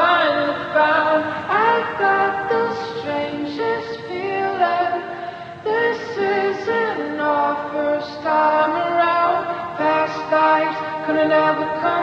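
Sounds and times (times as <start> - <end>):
woman singing long held notes: 0.0 - 12.0.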